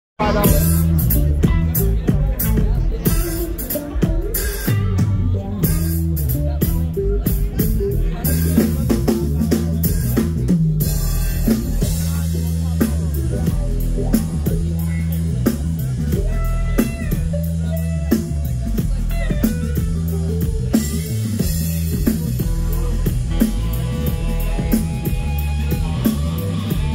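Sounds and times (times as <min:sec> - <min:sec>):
drum kit beat with rimshots: 0:00.2 - 0:26.9
electric guitar: 0:00.2 - 0:26.9
low bass notes: 0:00.2 - 0:26.9.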